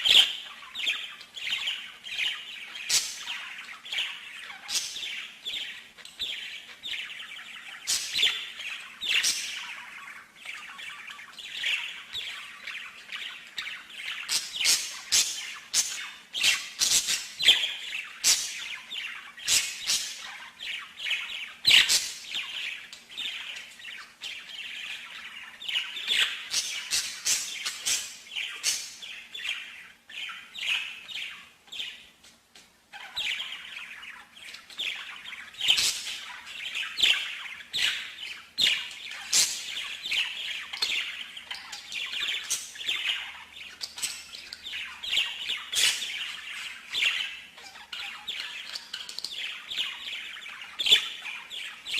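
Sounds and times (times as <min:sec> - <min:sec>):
songbird singing chirps and trills: 0:00.0 - 0:51.9.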